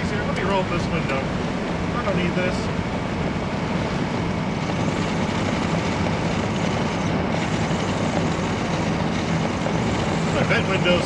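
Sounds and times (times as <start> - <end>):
diesel engine cruising: 0.0 - 11.0
wind and road noise: 0.0 - 11.0.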